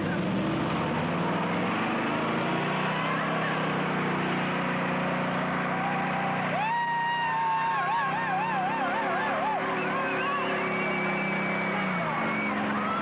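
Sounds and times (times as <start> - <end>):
car engine revving: 0.0 - 13.0
spinning tyre squeal: 1.0 - 13.0.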